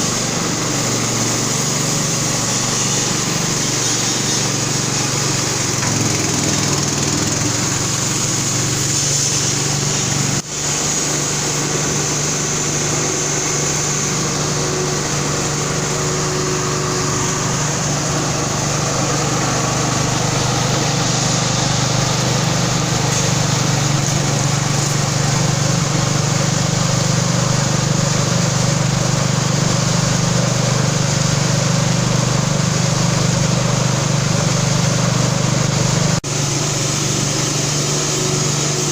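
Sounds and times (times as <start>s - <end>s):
processing machine humming and hissing: 0.0s - 38.9s.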